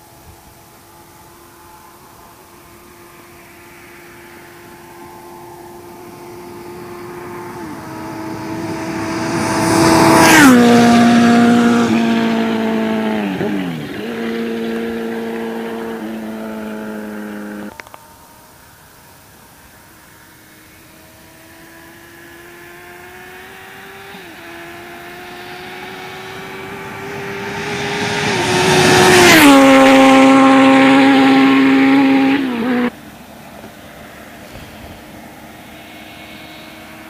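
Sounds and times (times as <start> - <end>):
sport bike engine passing: 0.0 - 37.0.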